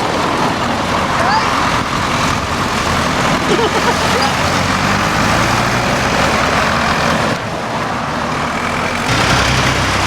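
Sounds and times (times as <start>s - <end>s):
tractor engines running: 0.0s - 10.0s.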